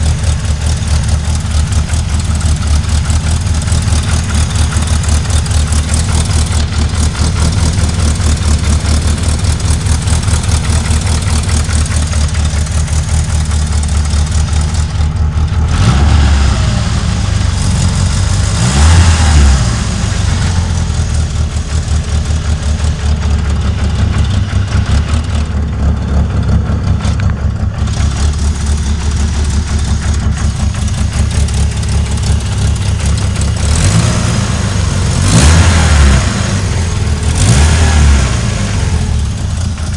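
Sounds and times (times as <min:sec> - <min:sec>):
transmission grinding: 0:00.0 - 0:39.9
vehicle engine revving: 0:00.0 - 0:39.9.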